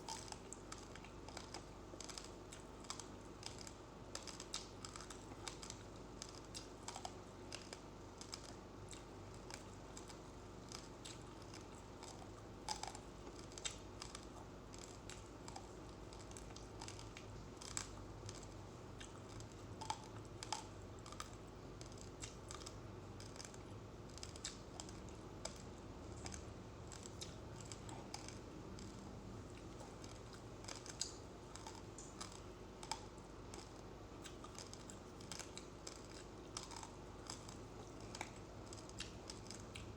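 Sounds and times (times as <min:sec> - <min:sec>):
rice grains crunched between teeth: 0:00.0 - 0:39.9.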